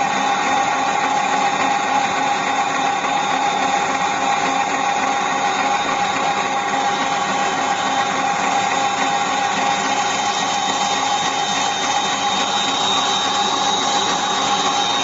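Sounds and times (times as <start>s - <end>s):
electric mixer motor whine: 0.0s - 15.0s.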